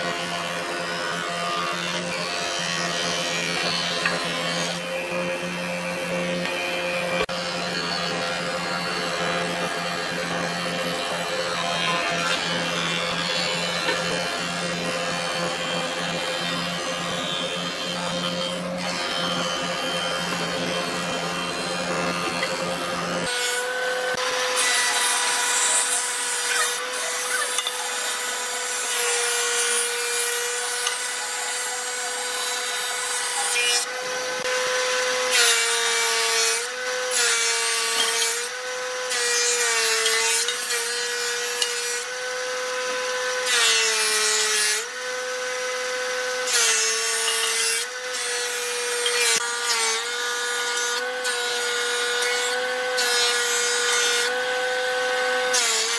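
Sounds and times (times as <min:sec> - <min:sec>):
blades shaving wood: 0:00.0 - 0:55.9
planer machine whine: 0:00.0 - 0:55.9.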